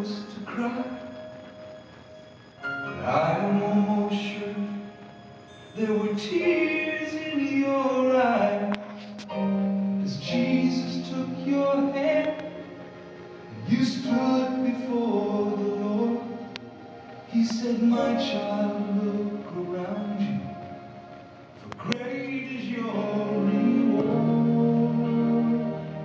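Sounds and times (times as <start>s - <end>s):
gospel song with accompaniment: 0.0s - 26.0s.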